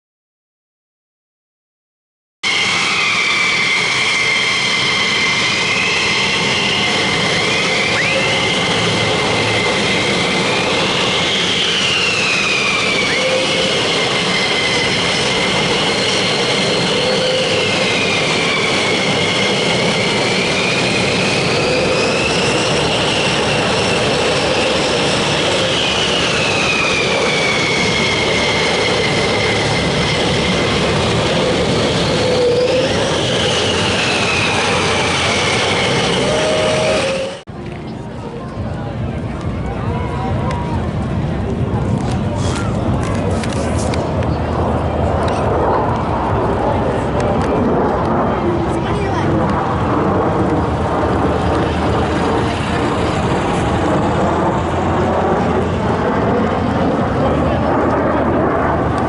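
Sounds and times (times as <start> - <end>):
jet engine whine: 2.4 - 59.0.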